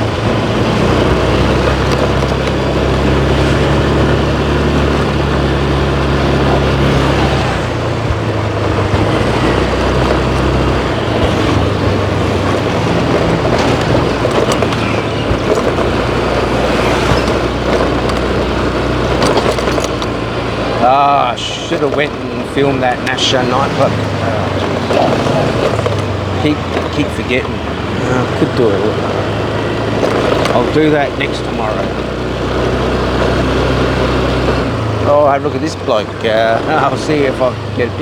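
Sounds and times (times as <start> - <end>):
engine hum: 0.0 - 38.0
rushing air and traffic: 0.0 - 38.0.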